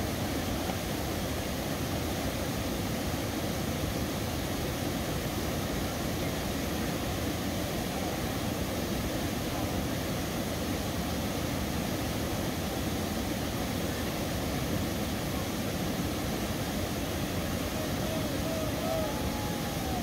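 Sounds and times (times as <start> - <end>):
water rushing over rock ledge: 0.0 - 20.0.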